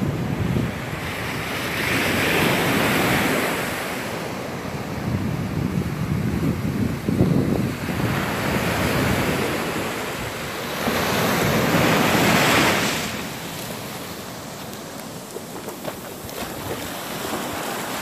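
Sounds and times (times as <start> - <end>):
ocean surf breaking on beach: 0.0 - 18.0
wind buffeting microphone: 0.0 - 18.0.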